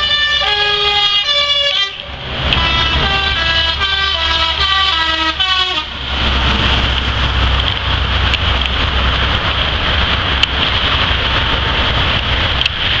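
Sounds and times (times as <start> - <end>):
motorway traffic passing: 0.0 - 13.0.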